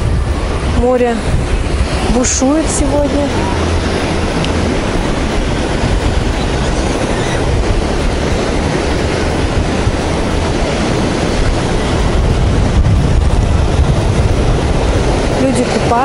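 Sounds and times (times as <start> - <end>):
sea surf breaking on shore: 0.0 - 16.0
wind buffeting microphone: 0.0 - 16.0.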